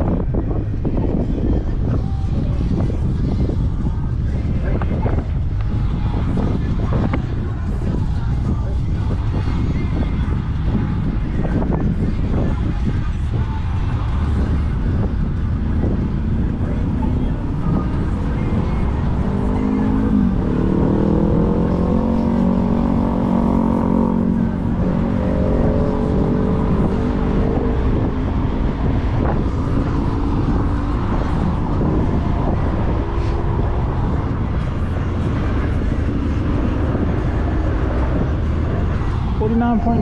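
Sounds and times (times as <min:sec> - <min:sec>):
road rumble: 0:00.0 - 0:40.0
wind buffeting microphone: 0:00.0 - 0:40.0.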